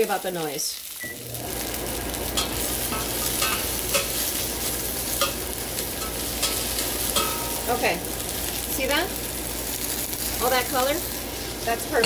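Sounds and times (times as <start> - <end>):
aromatics sizzling in saucepan: 0.0 - 12.0
kitchen fan humming: 0.0 - 12.0.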